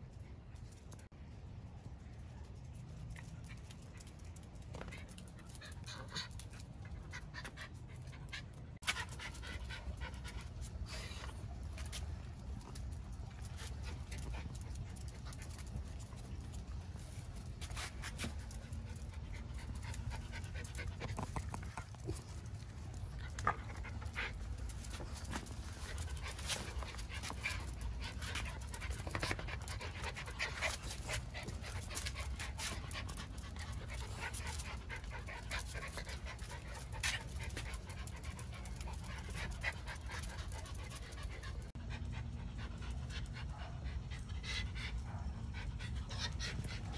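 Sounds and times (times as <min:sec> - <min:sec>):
dogs panting: 0:03.5 - 0:46.9.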